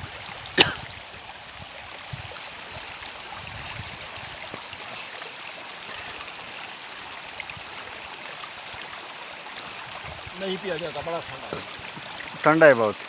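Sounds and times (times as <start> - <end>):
water flowing: 0.0 - 13.0.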